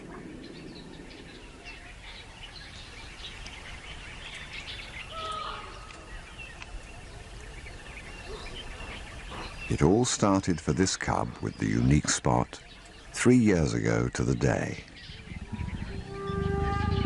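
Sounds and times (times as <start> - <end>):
bird chirps and calls: 0.0 - 17.0.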